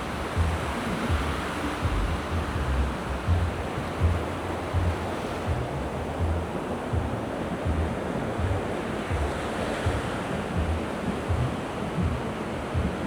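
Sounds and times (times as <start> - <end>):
surf washing on the shore: 0.0 - 13.0
wind on the microphone: 0.0 - 13.0.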